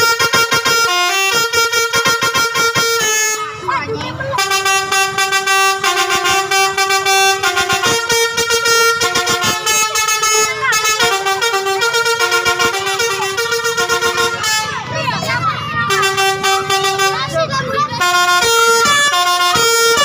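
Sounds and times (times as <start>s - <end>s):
musical bus horn playing tune: 0.0s - 20.0s.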